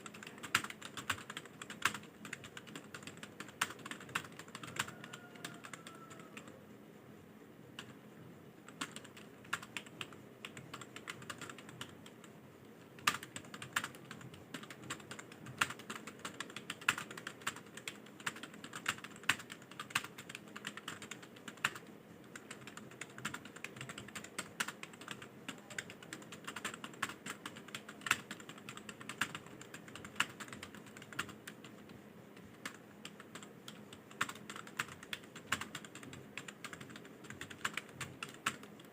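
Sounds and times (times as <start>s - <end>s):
fast typing on keyboard: 0.0s - 6.6s, 8.6s - 38.9s.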